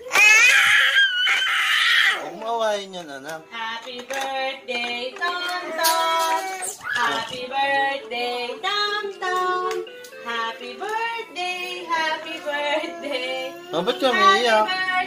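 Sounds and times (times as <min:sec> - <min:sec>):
children's song from toy speaker: 0:02.9 - 0:15.0.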